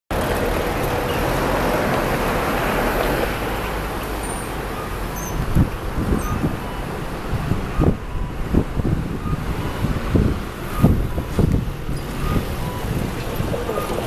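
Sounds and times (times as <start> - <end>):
road traffic: 0.1 - 14.0
wind buffeting microphone: 0.1 - 14.0.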